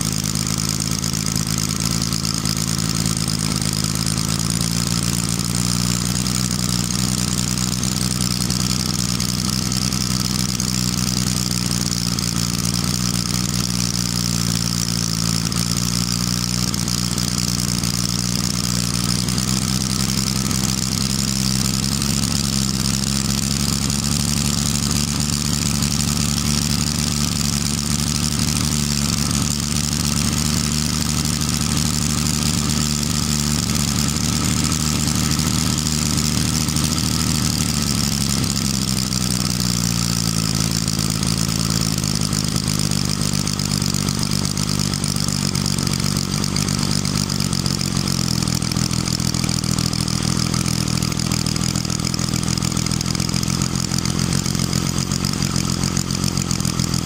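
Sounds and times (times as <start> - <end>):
model diesel engine running: 0.0 - 57.0.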